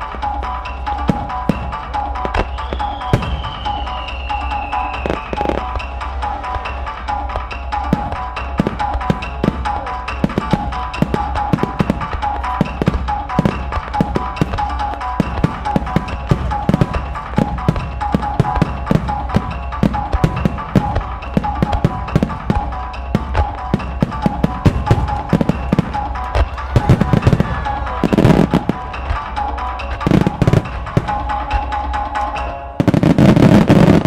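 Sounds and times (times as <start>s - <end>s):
fireworks bangs and pops: 0.0s - 34.0s
music with drums: 0.0s - 34.0s.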